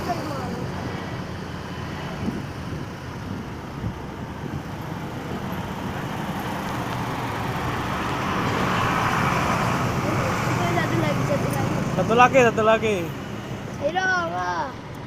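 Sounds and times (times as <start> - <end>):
roadside traffic noise: 0.0 - 15.0
vehicle approaching: 0.0 - 15.0.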